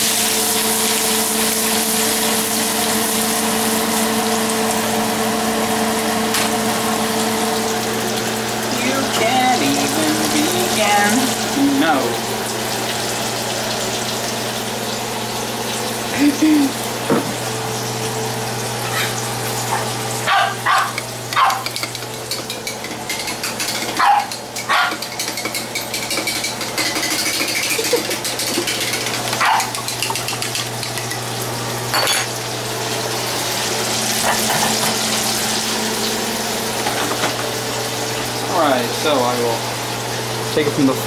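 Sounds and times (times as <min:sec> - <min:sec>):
food sizzling in hot oil: 0:00.0 - 0:41.0.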